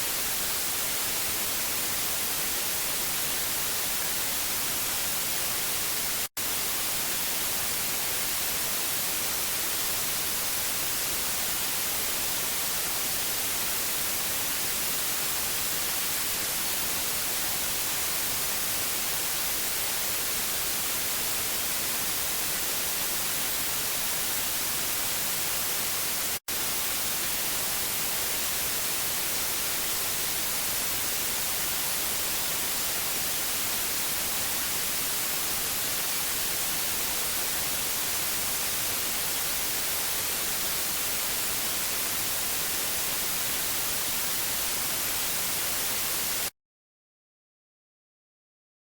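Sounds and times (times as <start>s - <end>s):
tv static hiss: 0.0s - 46.5s.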